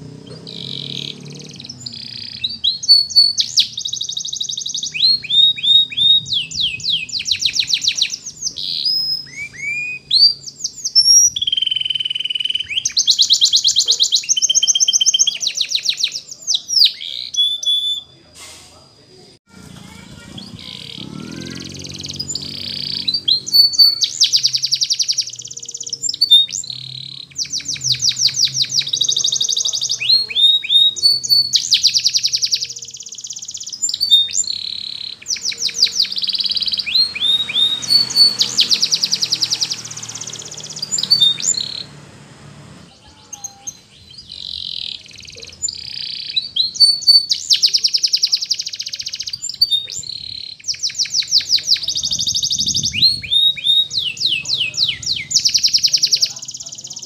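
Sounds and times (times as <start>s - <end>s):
canary singing trills: 0.0s - 18.3s, 19.6s - 57.0s.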